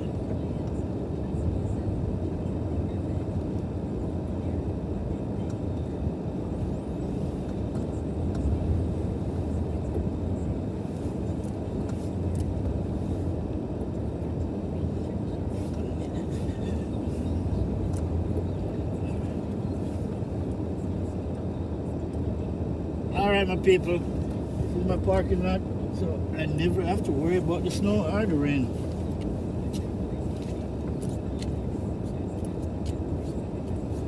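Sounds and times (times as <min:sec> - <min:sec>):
car driving: 0:00.0 - 0:34.0.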